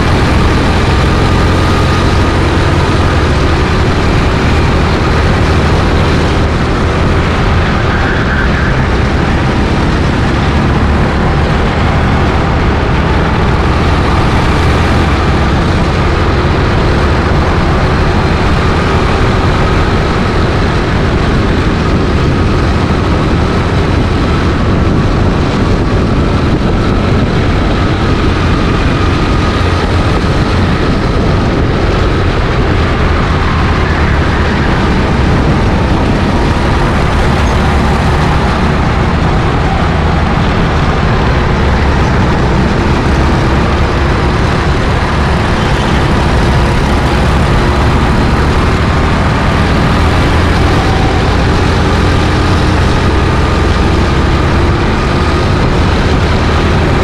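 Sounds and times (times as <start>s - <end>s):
go-kart engine running: 0.0s - 57.0s
low rumble: 0.0s - 57.0s.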